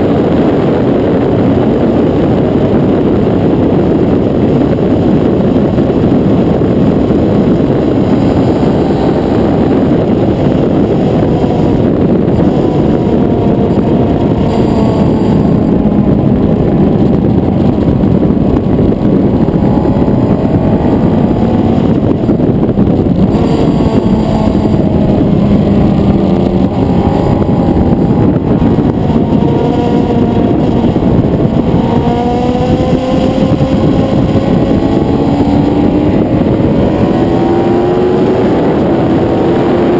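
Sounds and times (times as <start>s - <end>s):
heavy wind rush: 0.0s - 39.9s
motorcycle engine at speed: 0.0s - 39.9s.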